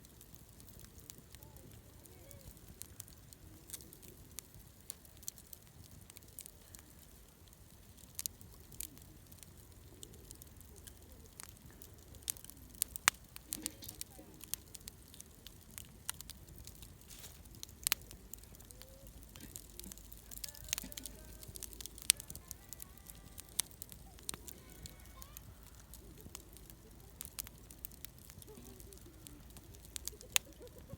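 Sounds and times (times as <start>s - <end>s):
bonfire crackling: 0.0s - 30.9s
sharp pops of fire: 0.0s - 30.9s.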